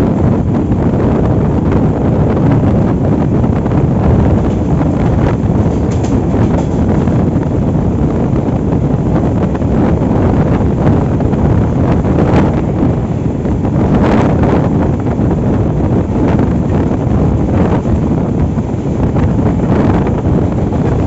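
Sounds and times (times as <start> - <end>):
train carriage rumbling on rails: 0.0 - 21.0
wind buffeting microphone: 0.0 - 21.0.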